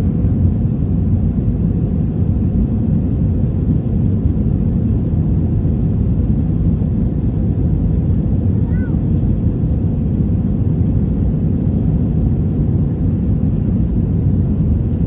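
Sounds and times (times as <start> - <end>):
jet engine and airflow rumble in cabin: 0.0 - 15.0.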